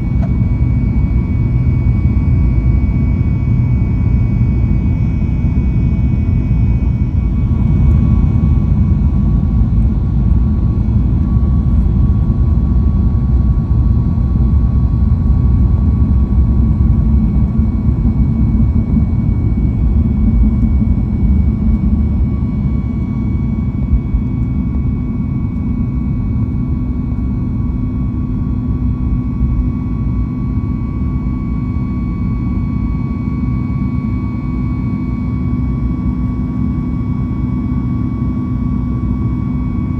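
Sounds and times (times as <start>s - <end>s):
jet engines at takeoff power: 0.0s - 39.9s.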